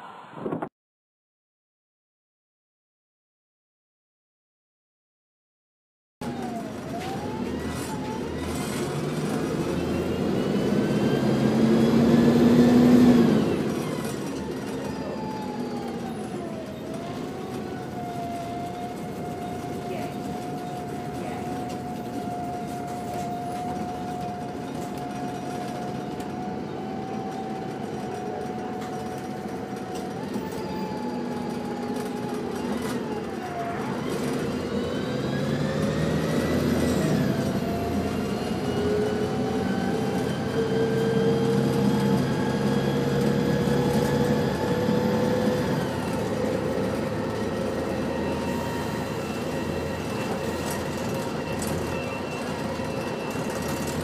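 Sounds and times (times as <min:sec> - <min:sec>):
bus engine running: 0:06.2 - 0:54.0.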